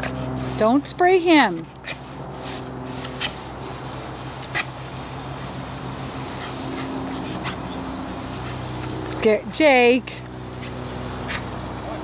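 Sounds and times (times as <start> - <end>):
hose nozzle spraying: 0.0 - 12.0.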